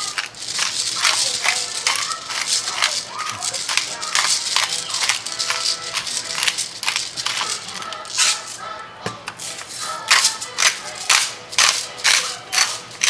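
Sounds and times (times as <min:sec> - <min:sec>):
background music: 0:00.0 - 0:13.0
spice grinder crunching: 0:00.0 - 0:13.0.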